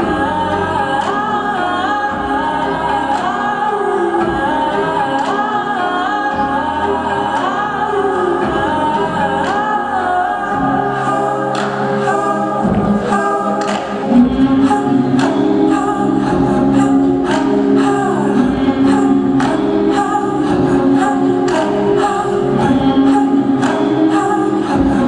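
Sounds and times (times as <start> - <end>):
choir-like backing voices: 0.0 - 25.0
song with sung vocals: 0.0 - 25.0.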